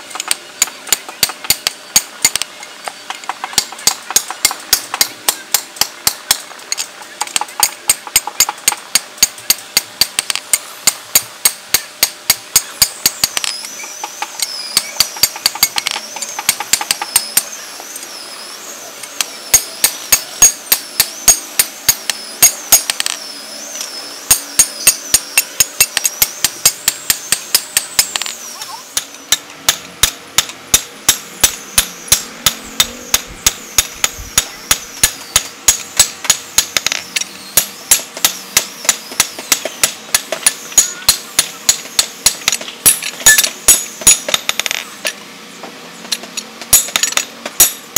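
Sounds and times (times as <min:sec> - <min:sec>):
hammer striking metal on anvil: 0:00.1 - 0:02.5, 0:03.1 - 0:17.6, 0:19.2 - 0:45.2, 0:46.1 - 0:47.9.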